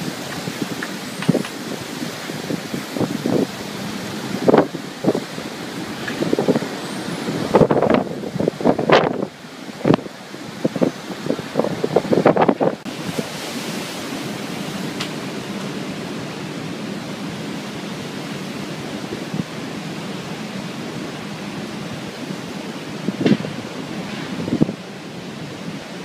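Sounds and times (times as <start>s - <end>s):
storm wind and surf rushing: 0.0s - 26.0s
wind buffeting microphone: 0.0s - 26.0s.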